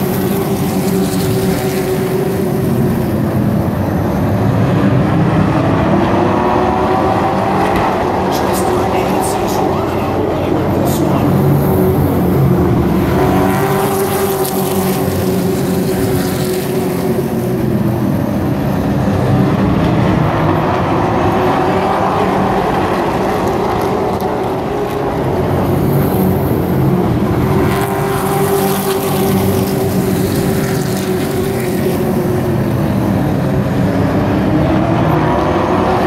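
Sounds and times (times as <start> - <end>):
race truck engines passing: 0.0 - 36.0.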